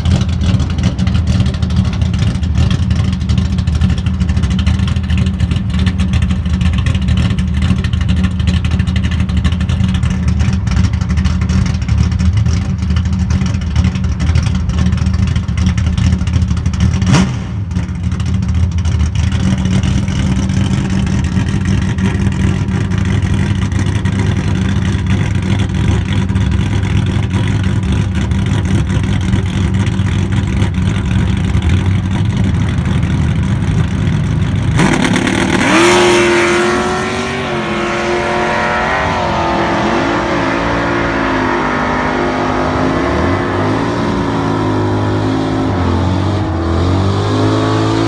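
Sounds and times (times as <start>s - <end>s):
drag car engine revving: 0.0s - 48.0s.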